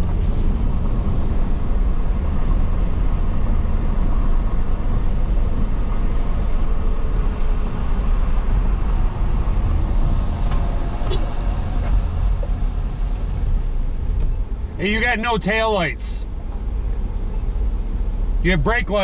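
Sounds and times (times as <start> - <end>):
road and tyre noise: 0.0 - 19.0.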